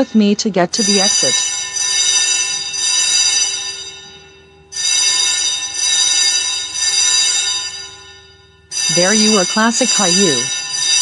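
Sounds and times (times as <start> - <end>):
fire alarm ringing: 0.0 - 11.0.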